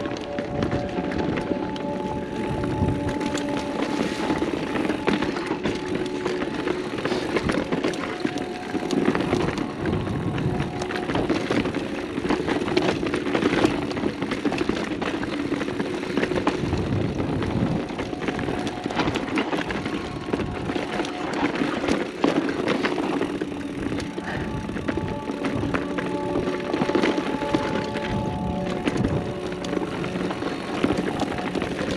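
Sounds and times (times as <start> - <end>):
bicycle freehub buzzing: 0.0 - 31.9
tyre noise on dirt: 0.0 - 31.9.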